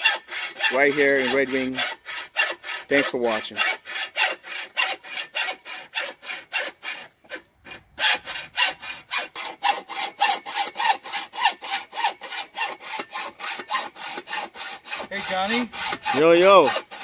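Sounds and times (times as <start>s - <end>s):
hacksaw cutting metal: 0.0s - 17.0s.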